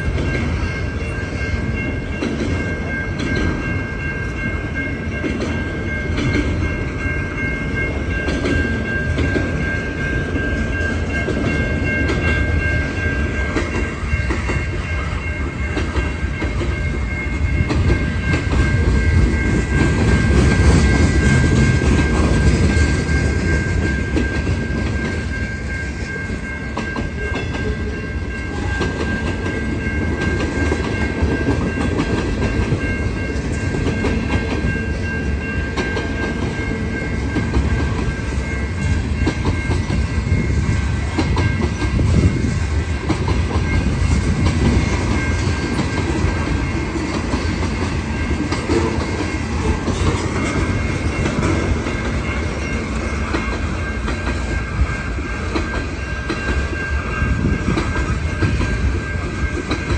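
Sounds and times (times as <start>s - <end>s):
freight train rumbling by: 0.0s - 59.9s.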